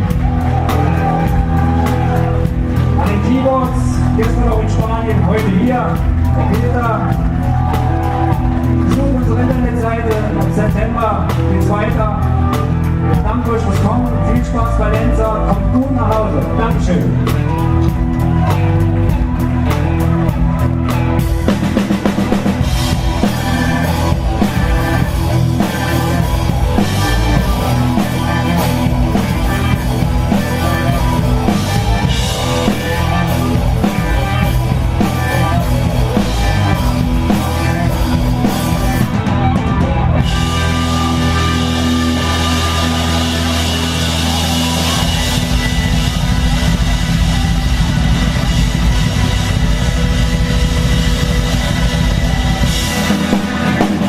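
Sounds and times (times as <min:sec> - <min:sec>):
bass: 0:00.0 - 0:54.0
drum kit: 0:00.0 - 0:54.0
electric guitar: 0:00.0 - 0:54.0
keyboards: 0:00.0 - 0:54.0.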